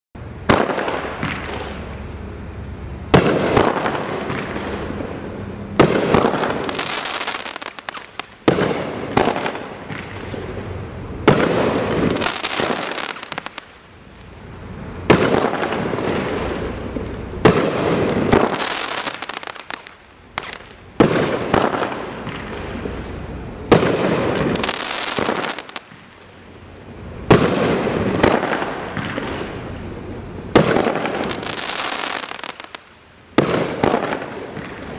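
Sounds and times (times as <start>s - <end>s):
firework bangs: 0.2s - 2.3s, 3.0s - 34.9s
firework crackle: 0.2s - 2.4s, 3.0s - 34.9s.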